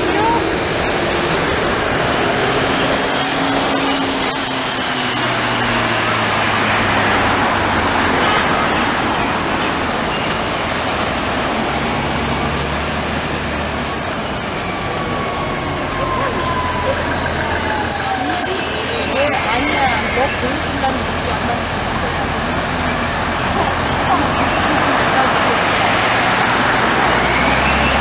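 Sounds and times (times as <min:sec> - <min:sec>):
bus pulling away: 0:00.0 - 0:28.0
cars passing: 0:00.0 - 0:28.0.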